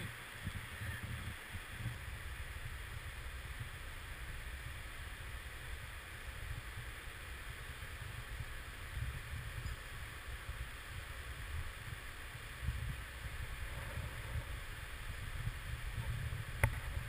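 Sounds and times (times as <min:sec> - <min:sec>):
shallow river flowing: 0:00.0 - 0:17.0
wind buffeting microphone: 0:00.0 - 0:17.0.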